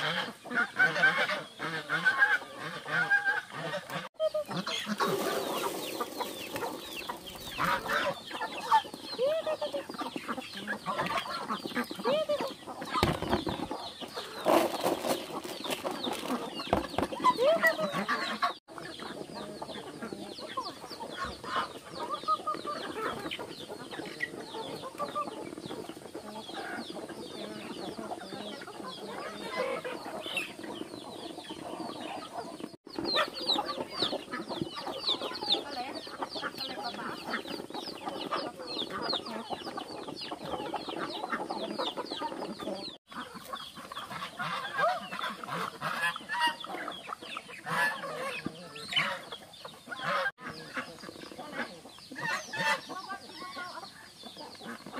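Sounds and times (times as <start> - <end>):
birds pecking at feed: 0.0 - 54.9
hens clucking: 0.0 - 54.9.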